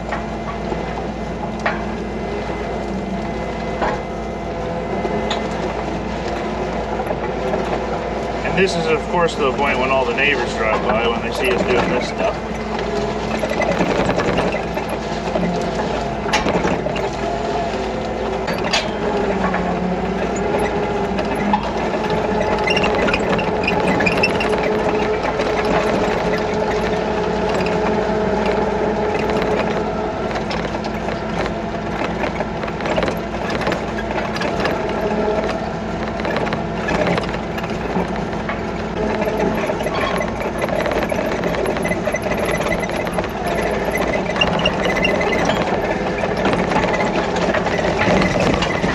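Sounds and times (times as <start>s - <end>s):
small engine running: 7.0s - 48.9s.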